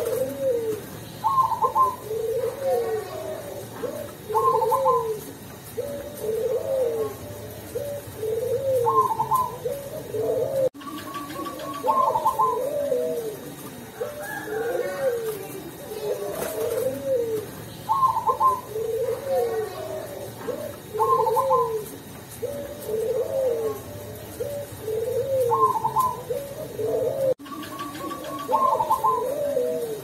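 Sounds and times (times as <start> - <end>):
dove cooing: 0.0 - 30.0.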